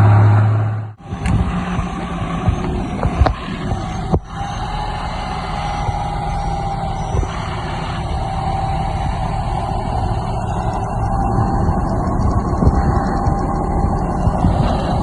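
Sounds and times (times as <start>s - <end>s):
diesel engine droning: 0.0s - 15.0s
faint steady whine: 0.0s - 15.0s.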